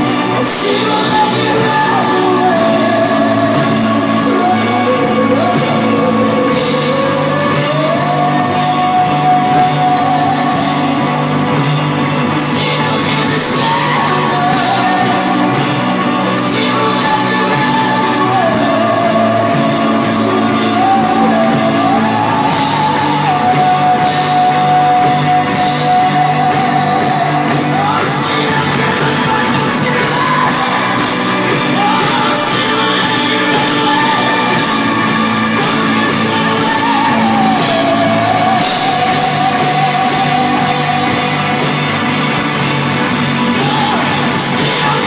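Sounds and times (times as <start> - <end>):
live band playing: 0.0 - 45.0.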